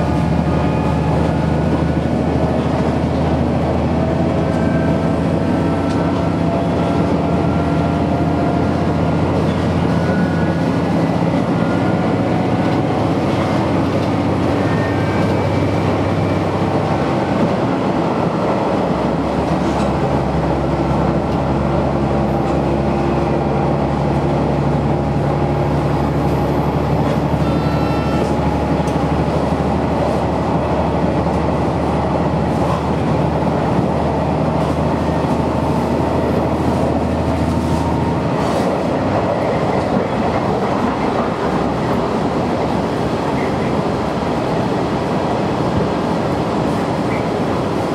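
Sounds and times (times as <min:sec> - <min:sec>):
diesel engine drone: 0:00.0 - 0:47.9
train wheels on rails: 0:00.0 - 0:47.9.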